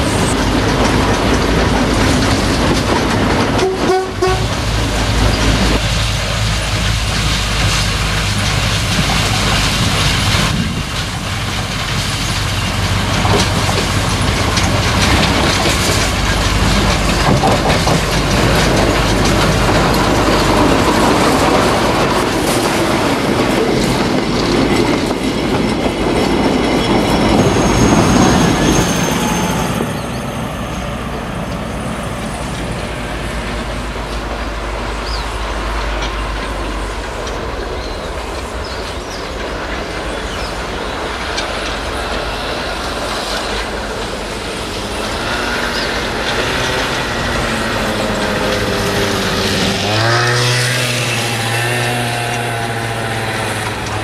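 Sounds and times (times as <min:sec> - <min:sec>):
train rattling on rails: 0:00.0 - 0:54.0.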